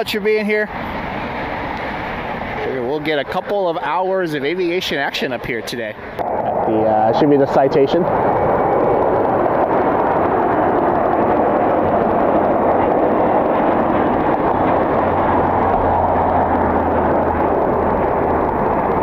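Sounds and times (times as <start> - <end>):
jet engine noise: 0.0 - 19.0.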